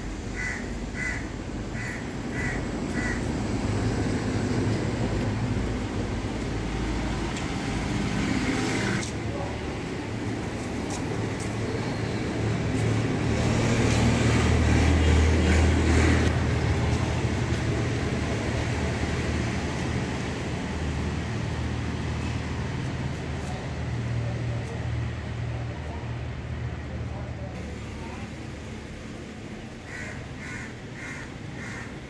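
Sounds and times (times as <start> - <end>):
motor vehicle rumble: 0.0 - 32.0
outdoor noise: 0.0 - 32.0.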